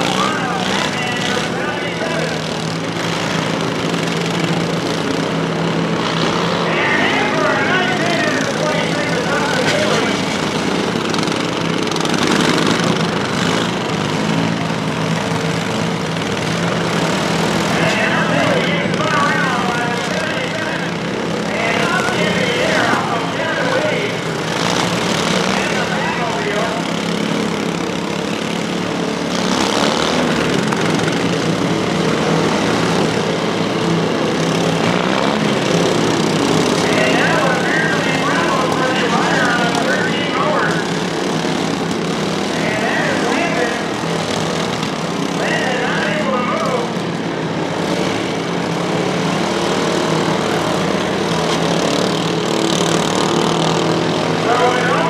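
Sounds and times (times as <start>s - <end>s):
lawn mower engines droning: 0.0s - 55.0s.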